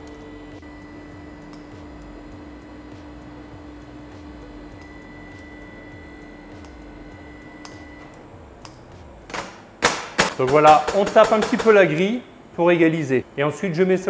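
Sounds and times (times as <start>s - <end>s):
electrical hum with whine: 0.0s - 14.0s.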